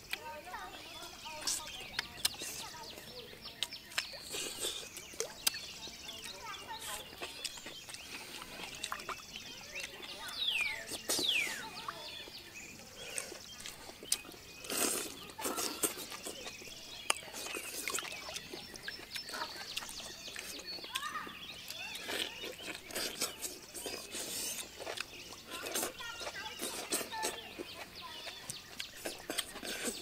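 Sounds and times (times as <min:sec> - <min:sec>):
birds chirping: 0:00.0 - 0:30.0
people eating and chewing: 0:00.0 - 0:30.0.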